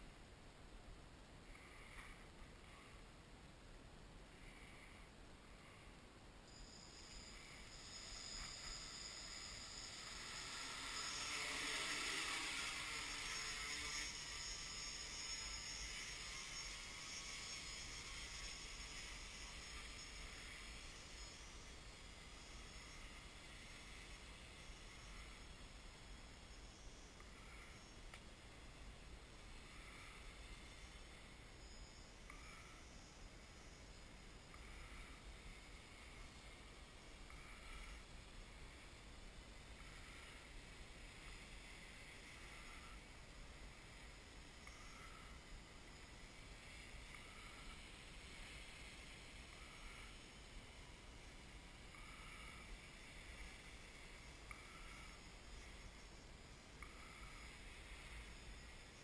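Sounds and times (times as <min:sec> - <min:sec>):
faint hiss: 0:00.0 - 0:59.0
distant drone buzzing: 0:04.3 - 0:59.0
quadcopter motors whining: 0:06.5 - 0:56.2.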